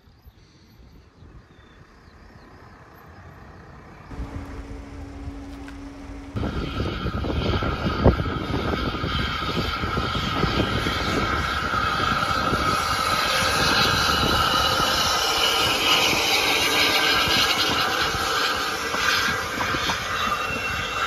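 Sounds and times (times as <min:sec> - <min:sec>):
steam locomotive running: 0:04.1 - 0:21.0.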